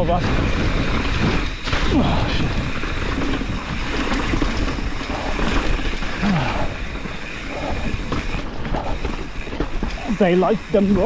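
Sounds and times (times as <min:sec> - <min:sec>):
bike rolling on rocky trail: 0:00.0 - 0:11.0
wind buffeting microphone: 0:00.0 - 0:11.0.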